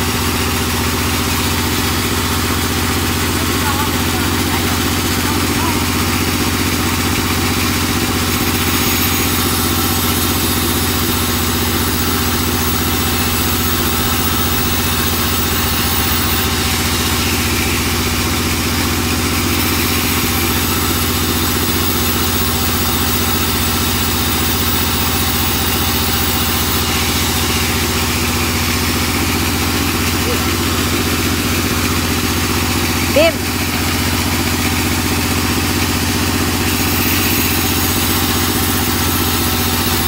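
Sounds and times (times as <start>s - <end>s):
sawmill saw cutting boards: 0.0s - 40.0s.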